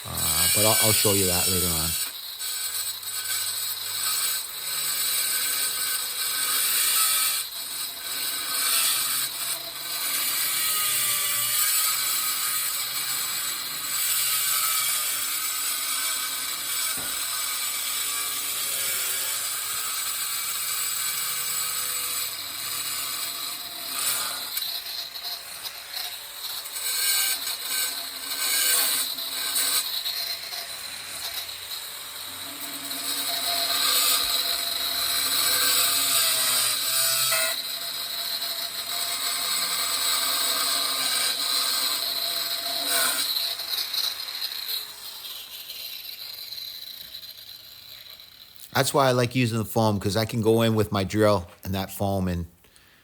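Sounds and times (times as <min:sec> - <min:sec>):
angle grinder cutting stone: 0:00.0 - 0:53.0.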